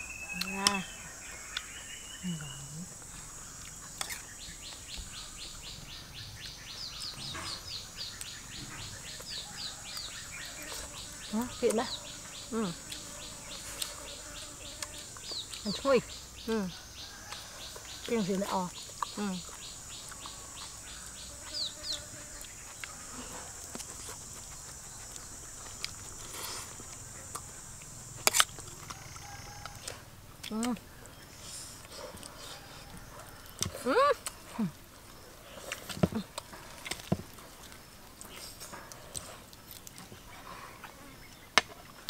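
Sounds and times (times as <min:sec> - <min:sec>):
bird chirping: 0:00.0 - 0:36.4
insects droning: 0:00.0 - 0:42.0
steady high hiss: 0:00.0 - 0:42.0.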